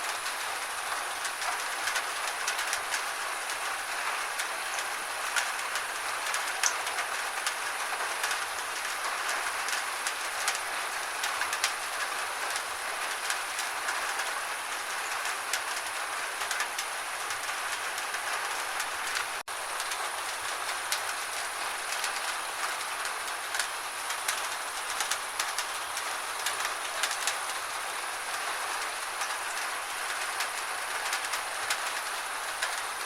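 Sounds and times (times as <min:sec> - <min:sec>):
gentle rain falling: 0:00.0 - 0:33.0
raindrops ticking: 0:00.1 - 0:33.0.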